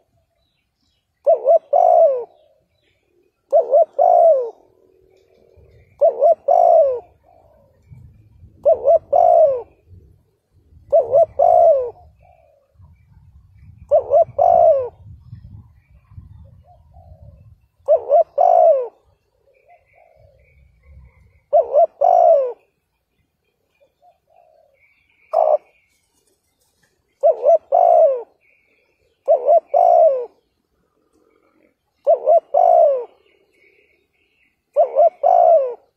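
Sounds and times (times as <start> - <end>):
dove cooing: 1.2 - 22.8, 23.8 - 25.9, 27.1 - 35.9.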